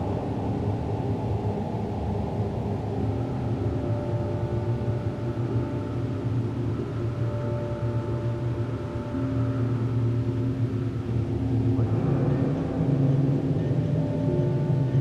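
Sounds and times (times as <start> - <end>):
ambient electronic drone music: 0.0 - 15.0.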